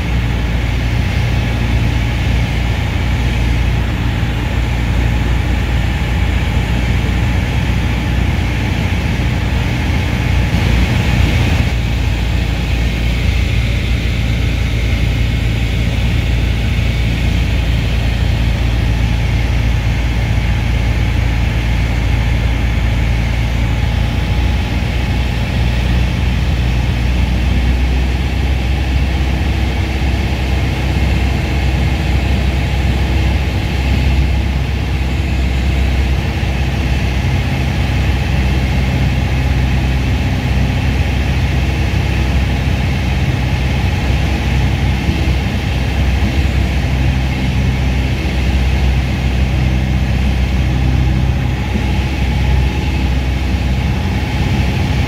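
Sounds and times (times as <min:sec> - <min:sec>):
airplane engine and propeller drone: 0:00.0 - 0:55.0.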